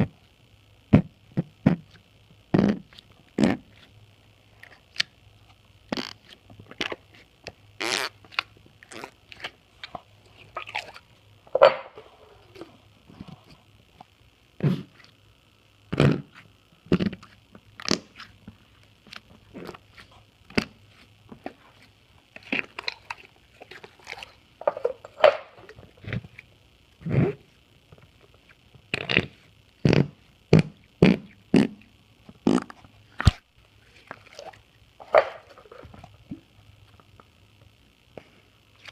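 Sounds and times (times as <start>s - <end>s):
faint microphone hum: 0.0s - 38.9s.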